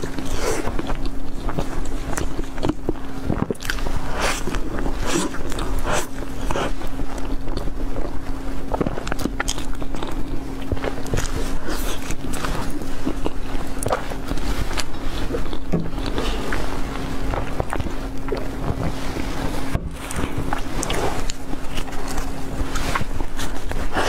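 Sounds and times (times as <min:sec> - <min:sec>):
biting and chewing bread: 0:00.0 - 0:24.0
faint steady hum: 0:00.0 - 0:24.0.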